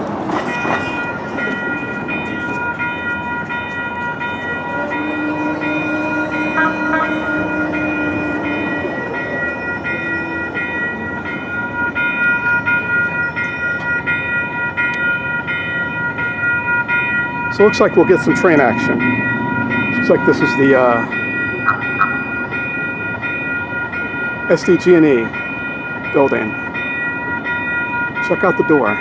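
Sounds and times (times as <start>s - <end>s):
crossing warning bell ringing: 0.0s - 29.0s.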